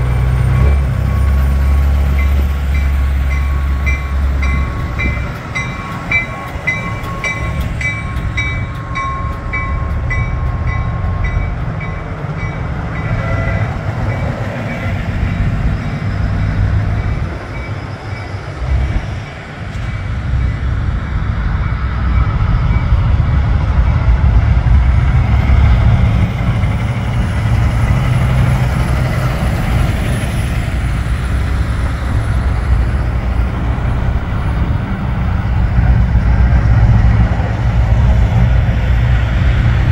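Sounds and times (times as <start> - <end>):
truck diesel engines rumbling past: 0.0 - 39.9.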